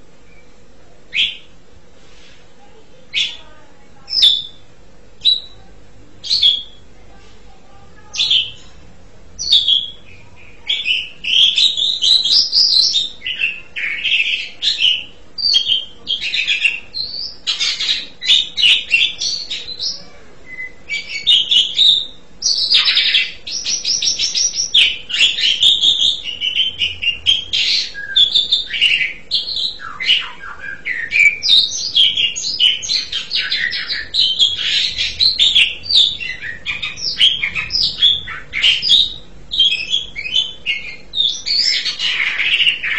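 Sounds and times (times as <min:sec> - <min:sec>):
starling singing: 0:01.1 - 0:01.6, 0:03.1 - 0:07.0, 0:07.8 - 0:42.9.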